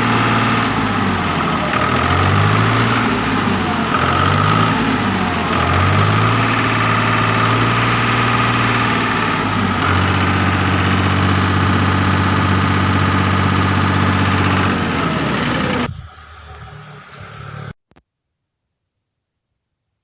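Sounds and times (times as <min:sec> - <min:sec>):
tractor diesel engine idling: 0:00.0 - 0:17.6.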